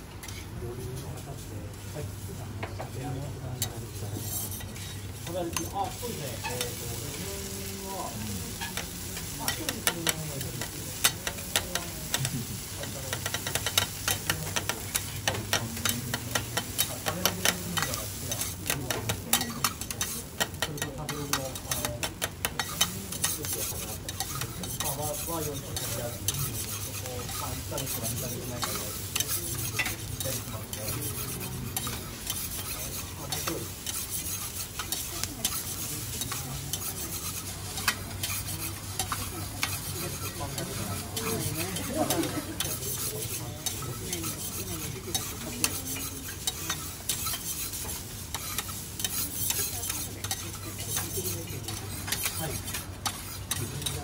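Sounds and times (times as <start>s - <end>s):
food sizzling: 0.0s - 54.0s
metal spatulas scraping griddle: 0.2s - 0.5s, 3.6s - 7.3s, 8.4s - 54.0s.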